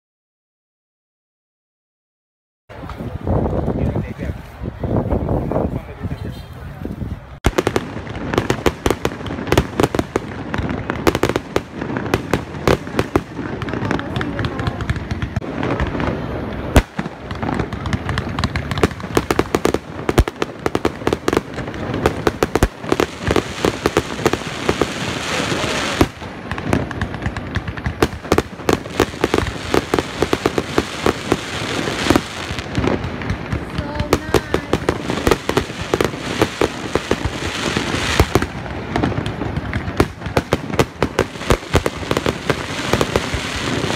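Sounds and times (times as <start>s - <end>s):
fireworks bangs and crackles: 2.7s - 43.9s
hissing crackle: 7.4s - 43.9s.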